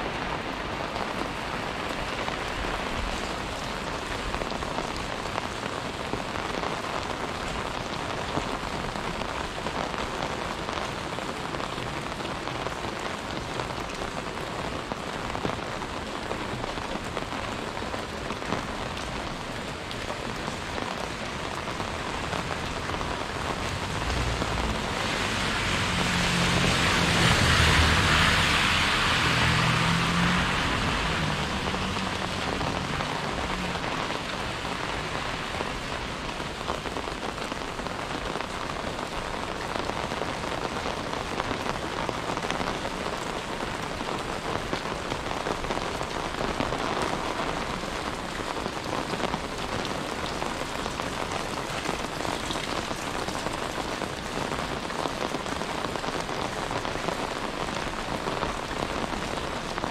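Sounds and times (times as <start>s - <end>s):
rain pattering on surfaces: 0.0s - 59.9s
vehicle passing on wet road: 0.0s - 59.9s.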